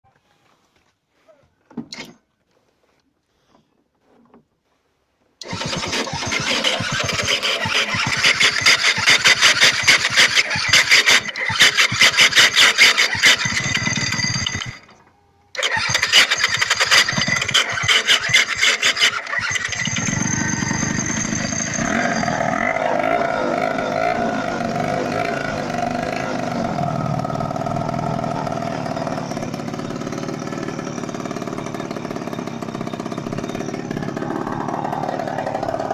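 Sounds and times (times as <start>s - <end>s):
scooter engine cranking and running: 5.4s - 35.9s.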